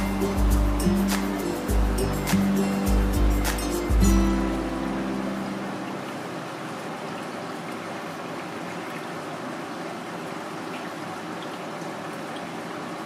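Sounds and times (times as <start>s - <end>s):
aquarium water rushing and trickling: 0.0s - 13.0s
faint steady hum: 0.0s - 13.0s.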